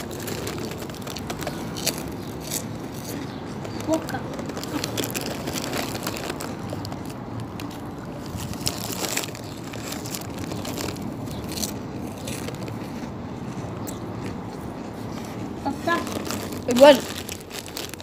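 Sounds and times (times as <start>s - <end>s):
chewing noise: 0.0s - 18.0s
crackers crunching: 0.0s - 18.0s.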